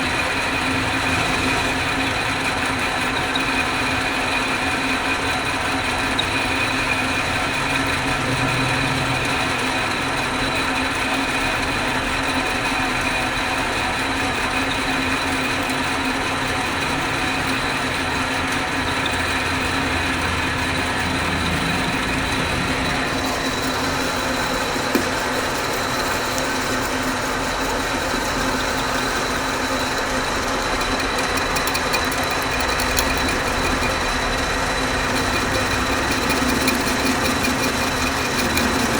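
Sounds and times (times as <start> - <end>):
lathe whine and hum: 0.0 - 38.9.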